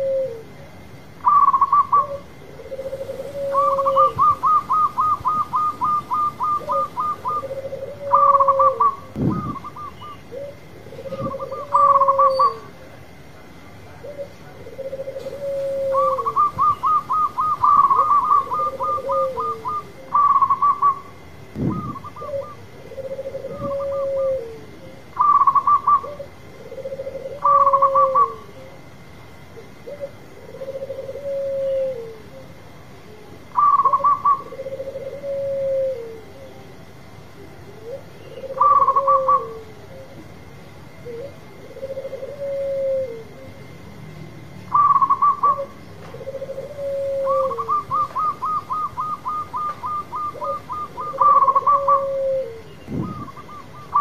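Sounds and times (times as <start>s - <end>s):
dove cooing: 0.0s - 13.0s, 13.8s - 44.0s, 44.6s - 54.0s.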